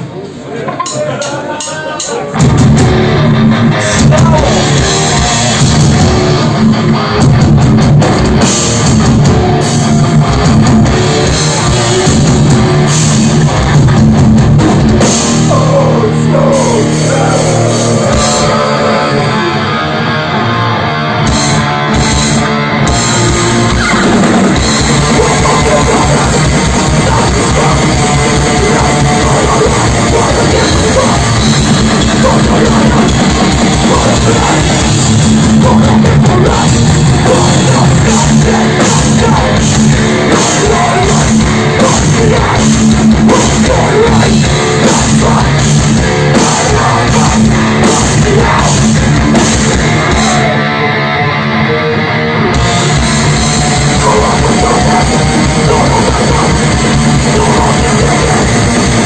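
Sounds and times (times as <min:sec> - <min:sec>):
punk band playing live: 0:00.0 - 0:59.0.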